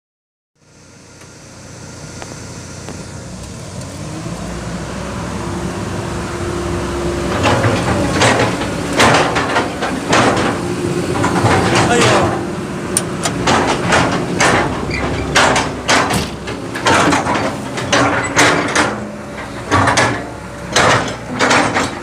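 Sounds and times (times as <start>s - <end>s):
excavator diesel engine humming: 0.6s - 22.0s.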